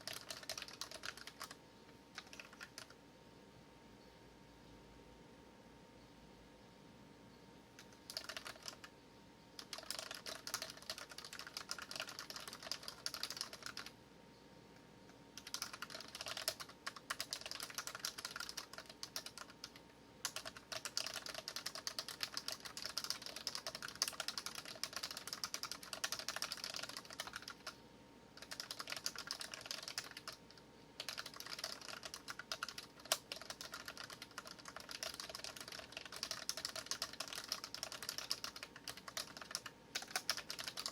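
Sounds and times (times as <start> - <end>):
mechanical keyboard typing: 0.0 - 3.0, 7.8 - 8.9, 9.6 - 13.9, 15.4 - 27.8, 28.4 - 40.9.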